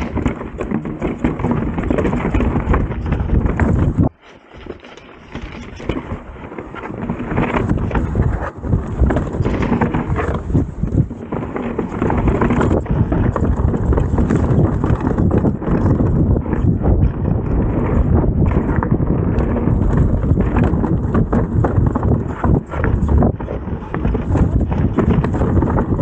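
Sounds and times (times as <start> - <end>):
bike rattling and clattering: 0.0 - 26.0
tyres crunching over rock: 0.0 - 26.0
wind on microphone: 0.0 - 26.0.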